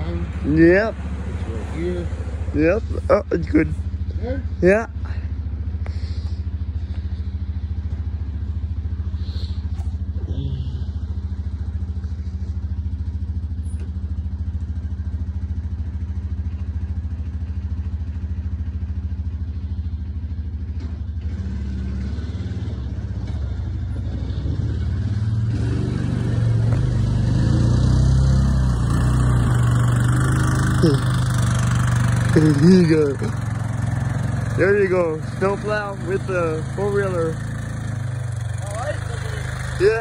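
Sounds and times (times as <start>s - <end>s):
atv engine running and revving: 0.0s - 40.0s.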